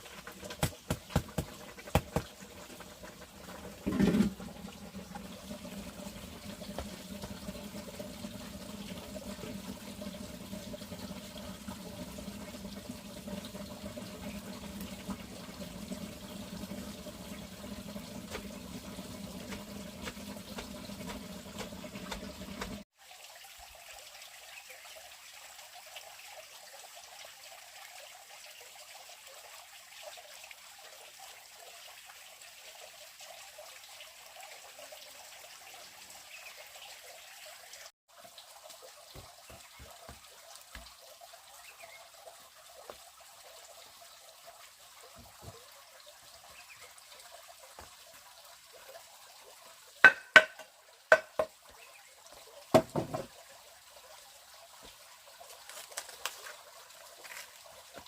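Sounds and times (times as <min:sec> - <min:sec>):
water running: 0:00.0 - 0:58.0.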